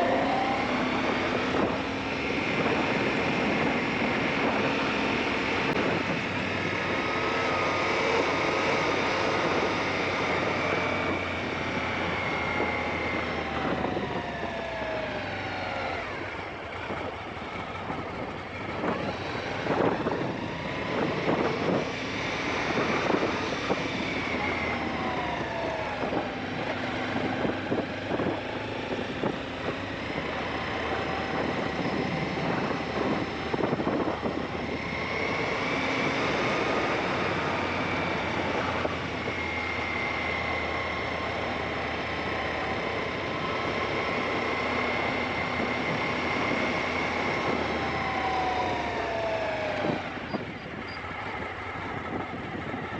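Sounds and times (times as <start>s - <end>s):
motorcycle engine running: 0.0s - 52.9s
wind buffeting microphone: 0.0s - 52.9s.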